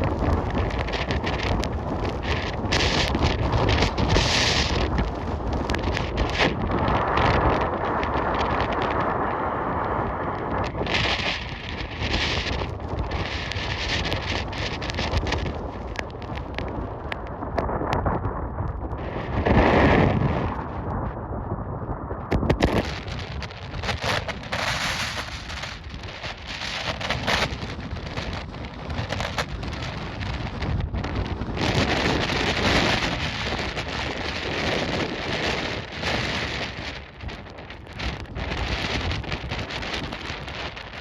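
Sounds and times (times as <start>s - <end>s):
sharp crackles: 0.0s - 41.0s
wind buffeting microphone: 0.0s - 41.0s.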